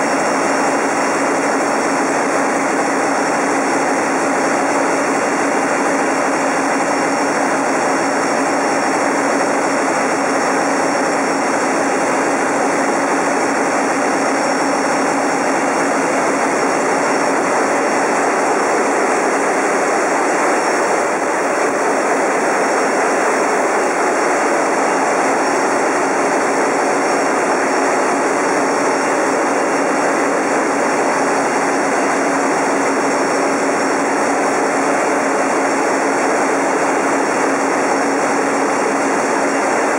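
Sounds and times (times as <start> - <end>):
turbocharger high whine: 0.0 - 39.9.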